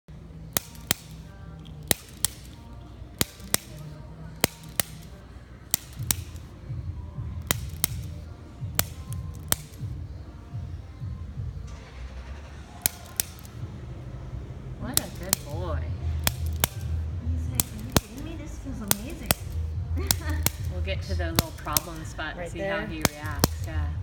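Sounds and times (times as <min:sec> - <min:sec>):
sharp mechanical clicks: 0:00.4 - 0:06.8, 0:07.4 - 0:10.0, 0:11.6 - 0:22.2, 0:22.8 - 0:24.0.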